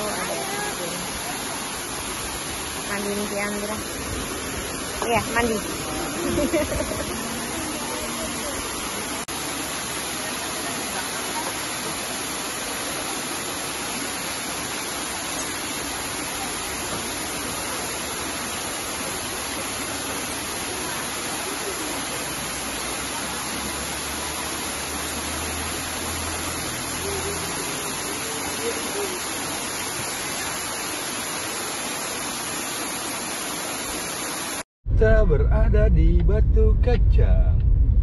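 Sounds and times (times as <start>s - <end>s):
waterfall rushing and splashing: 0.0s - 34.7s.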